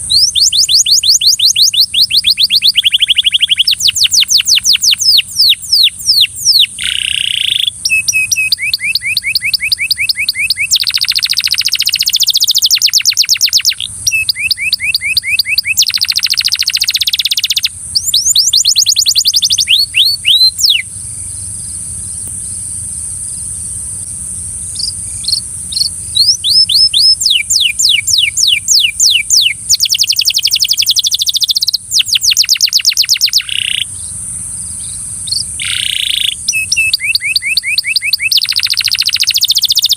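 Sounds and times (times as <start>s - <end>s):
canary singing trills: 0.0s - 22.8s, 24.6s - 39.9s.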